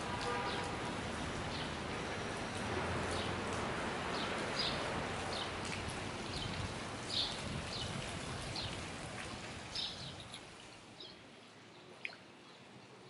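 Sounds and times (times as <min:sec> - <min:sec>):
rain hissing: 0:00.0 - 0:11.0
fountain water splashing: 0:00.0 - 0:13.0.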